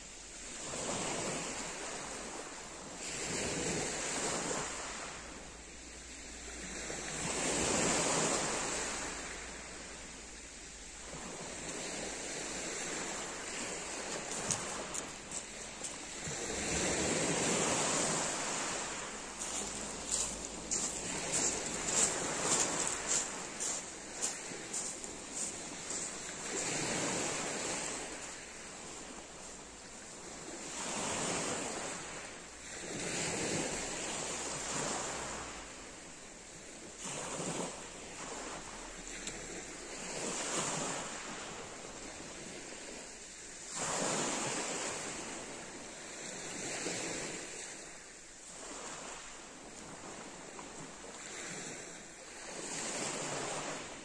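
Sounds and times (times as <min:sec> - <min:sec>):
waves washing up pebble beach: 0:00.1 - 0:54.0.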